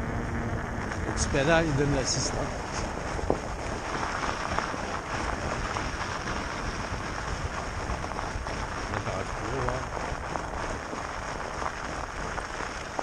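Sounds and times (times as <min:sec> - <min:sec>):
wind buffeting microphone: 0:00.0 - 0:13.0
tyres rolling over rough surface: 0:00.9 - 0:13.0.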